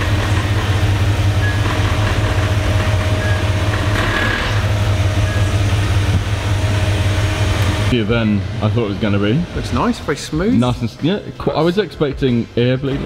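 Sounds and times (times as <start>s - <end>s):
van engine idling: 0.0s - 11.4s.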